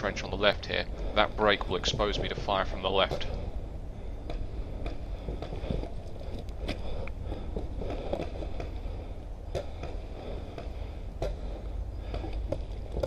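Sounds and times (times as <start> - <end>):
footsteps and gear knocking: 0.0 - 13.0
low wind rumble on microphone: 0.0 - 13.0.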